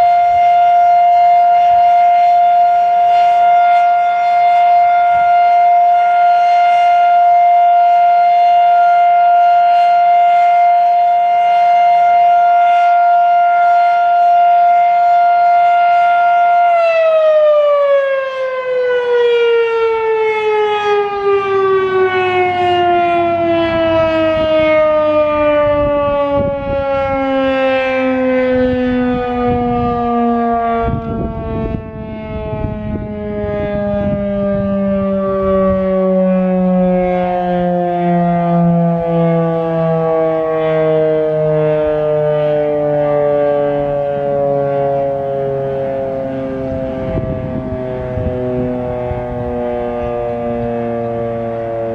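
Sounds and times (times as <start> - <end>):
tornado siren winding down: 0.0 - 51.9.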